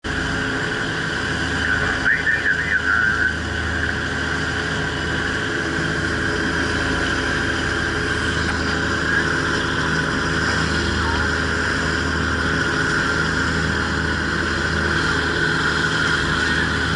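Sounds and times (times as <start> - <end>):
boat engine running: 0.0 - 16.9.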